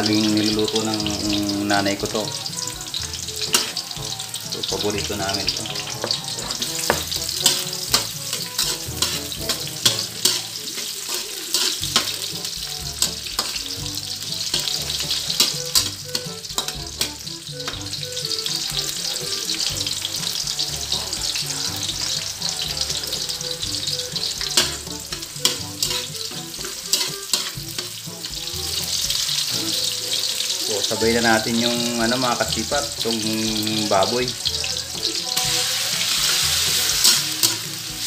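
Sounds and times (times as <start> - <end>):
garlic and onion sizzling in oil: 0.0 - 38.0
metal spatula scraping a wok: 1.2 - 30.5, 34.4 - 38.0.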